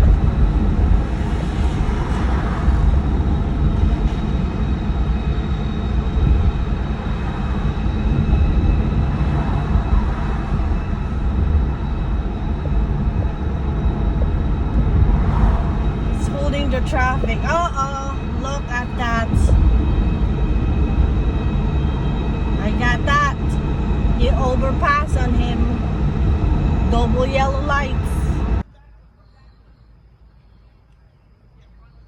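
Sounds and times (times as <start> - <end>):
car driving on road: 0.0 - 28.6.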